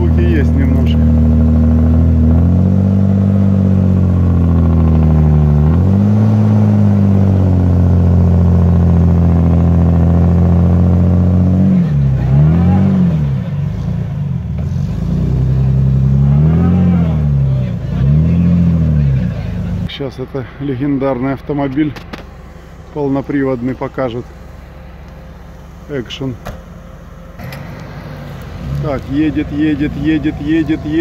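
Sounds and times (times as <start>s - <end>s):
off-road vehicle engine under load: 0.0s - 31.0s.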